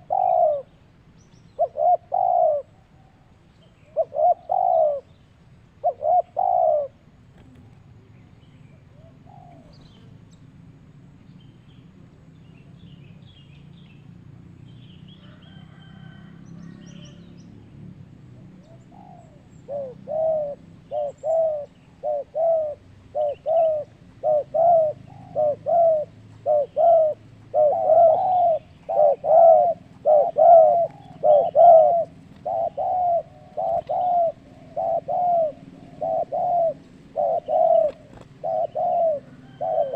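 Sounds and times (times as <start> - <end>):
dove cooing: 0.0 - 8.1, 8.7 - 10.2, 15.2 - 17.4, 18.4 - 39.9.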